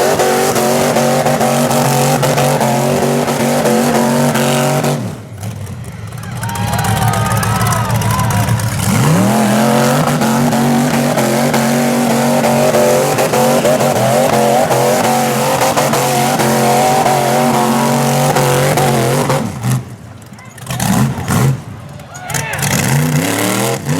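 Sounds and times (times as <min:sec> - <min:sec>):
engine revving at high rpm: 0:00.0 - 0:05.6, 0:06.8 - 0:20.0, 0:22.6 - 0:23.9.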